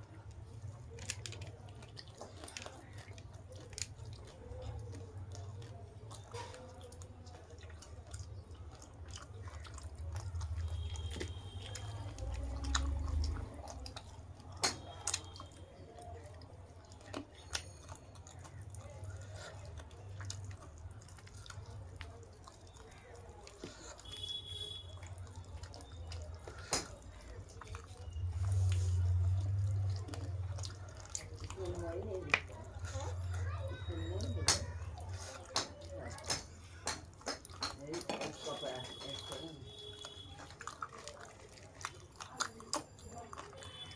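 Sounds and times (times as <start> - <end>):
person chewing: 0.0 - 43.9.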